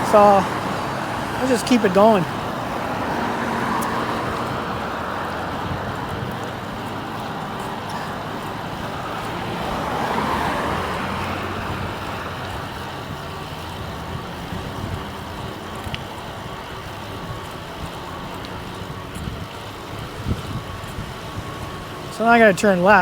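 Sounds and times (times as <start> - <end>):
wind noise: 0.0 - 22.2
road traffic passing: 0.0 - 23.0.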